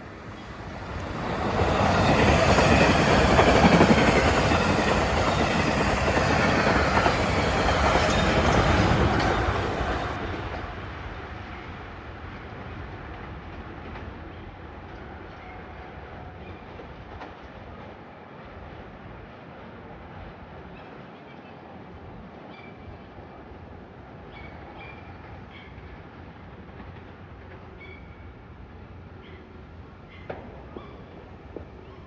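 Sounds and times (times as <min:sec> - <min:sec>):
passenger train passing: 0:00.0 - 0:32.0.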